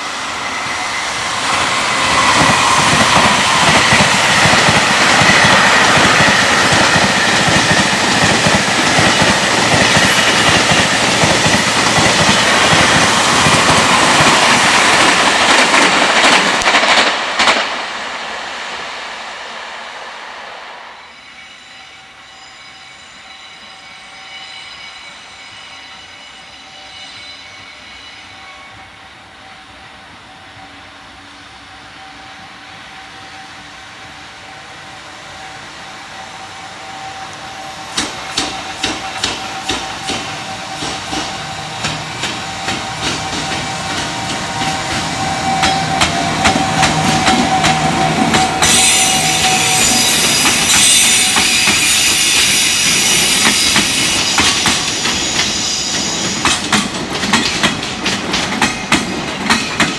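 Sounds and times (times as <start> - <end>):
train wheels clacking on rails: 0.0 - 21.0, 30.3 - 59.9
approaching train steady tone: 0.0 - 59.9
high rushing noise of train: 0.0 - 59.9.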